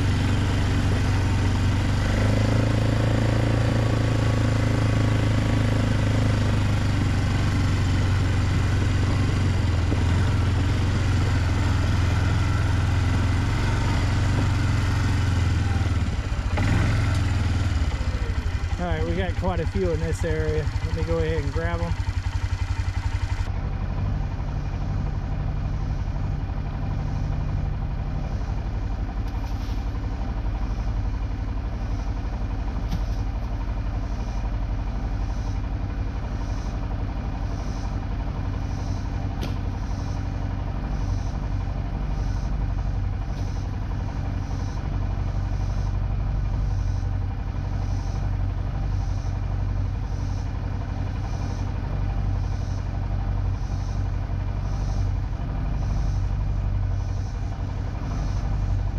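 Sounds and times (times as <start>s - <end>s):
four-wheeler engine running: 0.0s - 58.9s.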